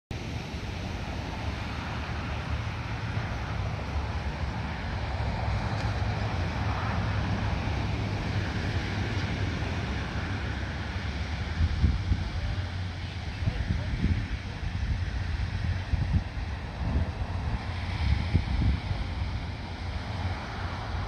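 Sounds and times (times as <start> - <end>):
wind rumbling on microphone: 0.1 - 21.0
ocean surf washing on shore: 0.2 - 21.0.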